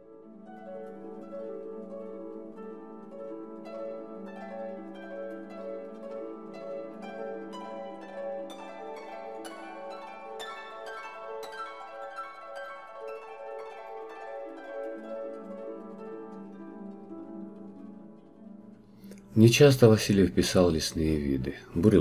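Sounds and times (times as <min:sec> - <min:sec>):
plucked harp-like notes: 0:00.0 - 0:22.0.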